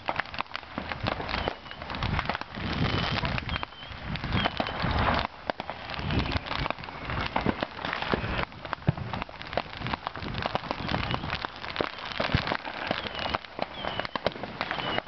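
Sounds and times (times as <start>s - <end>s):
firework whistles: 0.0s - 9.0s, 9.8s - 15.0s
fireworks crackling and popping: 0.0s - 15.0s.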